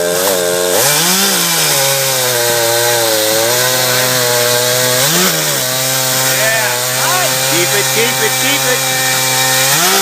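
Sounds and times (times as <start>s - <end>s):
chainsaw cutting log: 0.0s - 10.0s.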